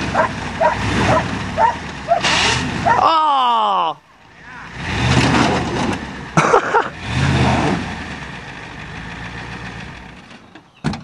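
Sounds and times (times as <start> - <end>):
truck engine revving: 0.0 - 3.1, 4.2 - 10.8.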